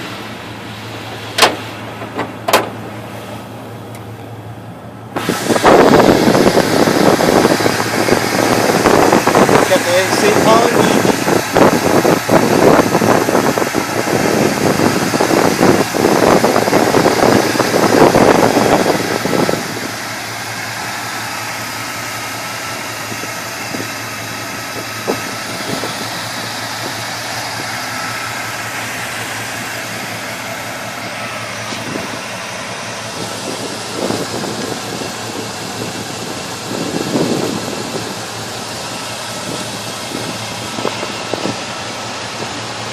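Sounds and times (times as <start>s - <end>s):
air-conditioning blower hiss: 0.0s - 42.9s
truck engine running: 0.0s - 42.9s.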